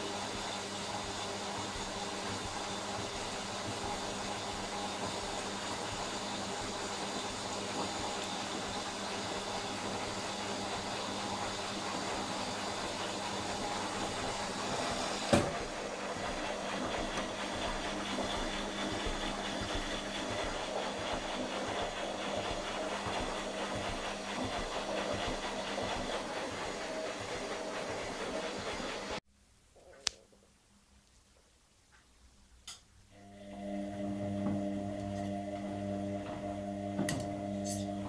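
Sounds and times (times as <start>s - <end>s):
washing machine running: 0.0s - 29.2s, 33.1s - 38.0s.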